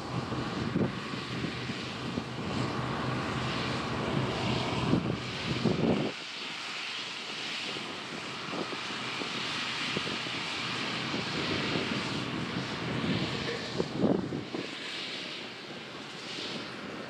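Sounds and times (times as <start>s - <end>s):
combine engine and machine drone: 0.0s - 17.0s
wind rumble on microphone: 0.0s - 17.0s.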